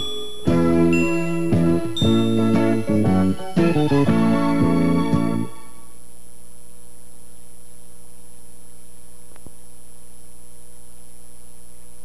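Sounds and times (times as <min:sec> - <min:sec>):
faint high whine: 0:00.0 - 0:12.0
steady electrical hum: 0:00.0 - 0:12.0.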